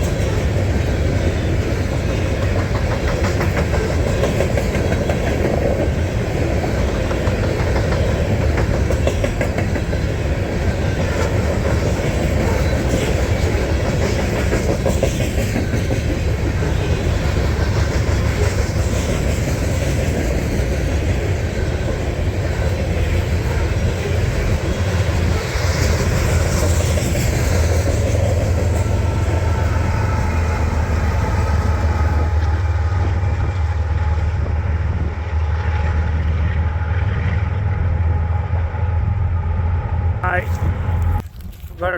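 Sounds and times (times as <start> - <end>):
wheels clacking over rail joints: 0.0 - 37.7
freight train rumbling past: 0.0 - 41.9.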